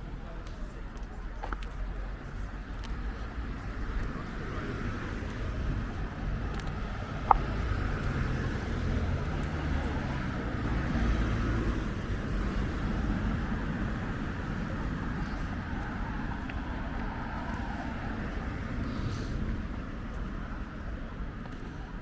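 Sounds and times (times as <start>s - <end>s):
car passing on street: 1.7s - 21.0s.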